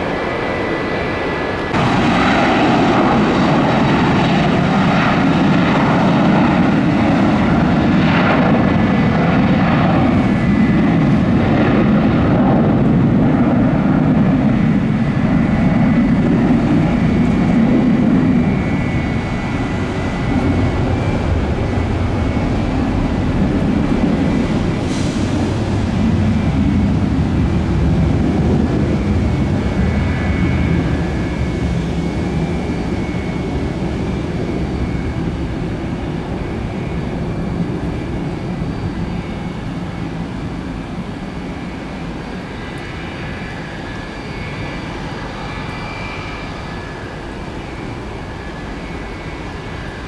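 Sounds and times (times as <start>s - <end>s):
jet engines rumbling and whining: 0.0s - 50.0s.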